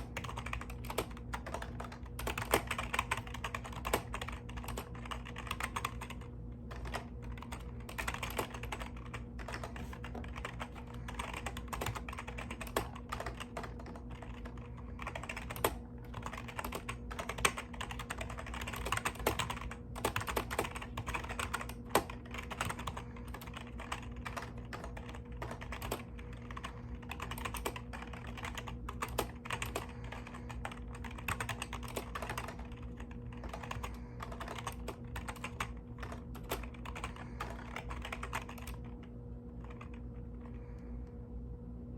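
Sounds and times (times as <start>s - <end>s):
mechanical keyboard typing: 0.0s - 40.1s
low electrical hum: 0.0s - 41.9s.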